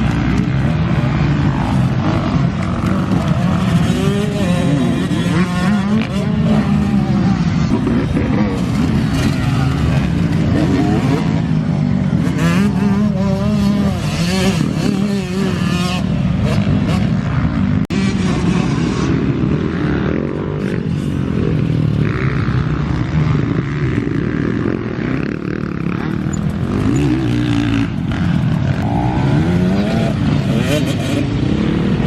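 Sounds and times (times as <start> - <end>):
motocross bike engines revving: 0.0 - 32.0.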